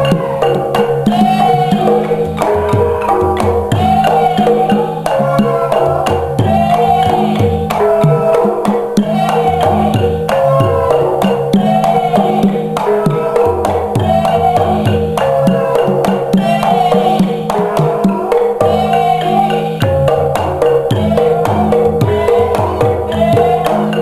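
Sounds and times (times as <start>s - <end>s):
low held tones: 0.0s - 24.0s
wavering melodic phrase: 0.0s - 24.0s.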